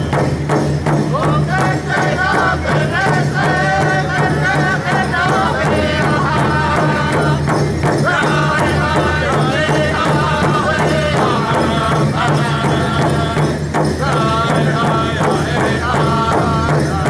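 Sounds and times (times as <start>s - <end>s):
large drum steady beat: 0.0s - 17.0s
group singing in chorus: 1.1s - 17.0s.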